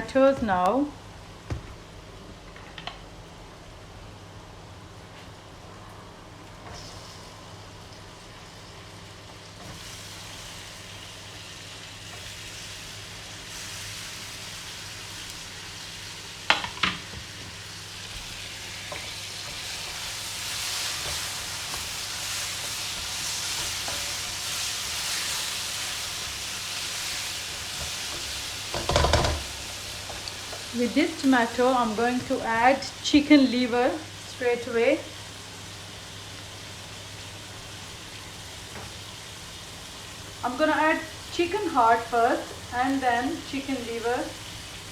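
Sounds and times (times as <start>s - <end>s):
spices sizzling in a pan: 0.0s - 44.9s.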